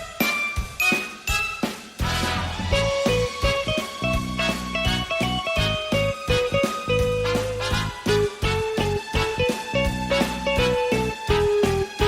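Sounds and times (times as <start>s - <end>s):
upbeat swing instrumental: 0.8s - 12.0s.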